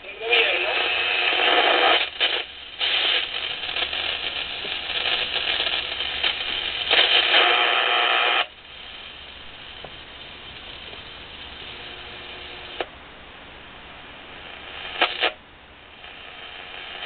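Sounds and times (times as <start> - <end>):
radio static and noise: 0.0 - 13.6, 14.2 - 17.0
low steady hiss: 0.0 - 17.0.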